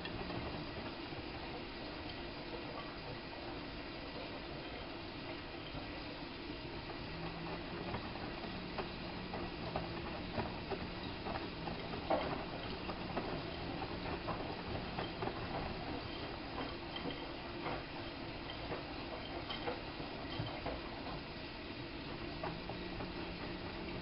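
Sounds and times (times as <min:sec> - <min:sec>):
laundry and water sloshing: 0:00.0 - 0:24.0
washing machine motor hum: 0:00.0 - 0:24.0.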